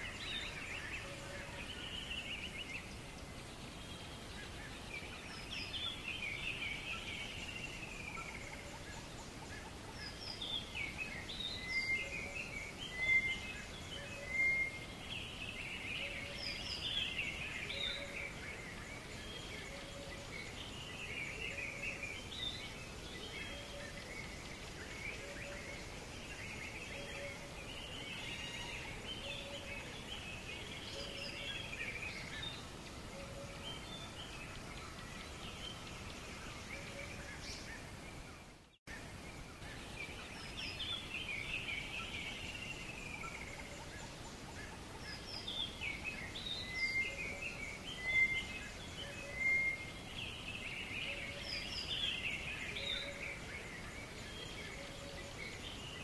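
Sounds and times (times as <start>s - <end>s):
background hiss: 0.0s - 56.0s
small birds chirping: 0.0s - 56.0s.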